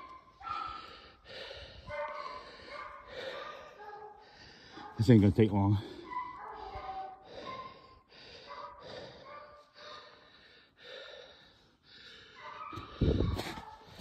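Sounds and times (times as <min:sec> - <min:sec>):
person breathing hard: 0:00.4 - 0:05.0, 0:06.5 - 0:13.3.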